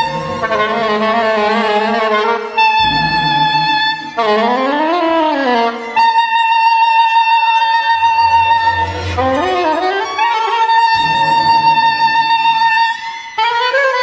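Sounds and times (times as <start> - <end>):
soprano saxophone: 0.0 - 14.0
string orchestra: 0.0 - 14.0.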